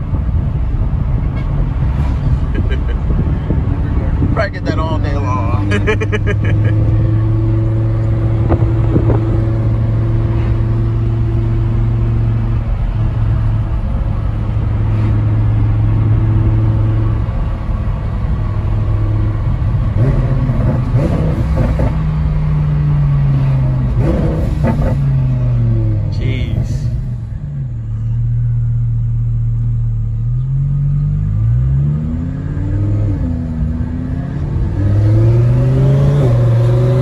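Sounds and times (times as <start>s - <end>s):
car engine drone from cabin: 0.0s - 37.0s.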